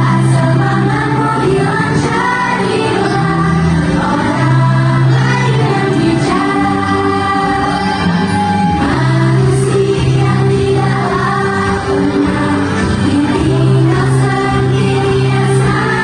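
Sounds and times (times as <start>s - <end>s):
group singing pop song: 0.0s - 16.0s
musical accompaniment: 0.0s - 16.0s.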